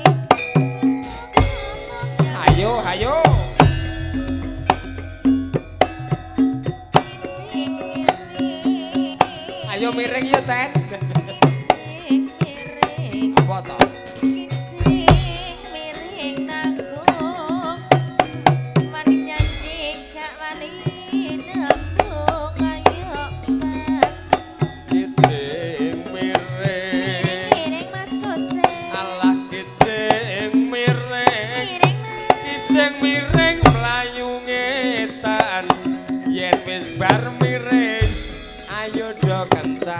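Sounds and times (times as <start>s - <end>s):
hand drums playing: 0.0s - 39.9s
wavering melody: 0.0s - 39.9s.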